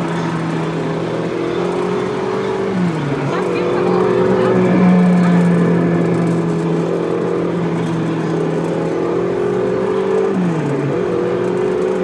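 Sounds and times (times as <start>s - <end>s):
amusement ride motor humming: 0.0s - 12.0s.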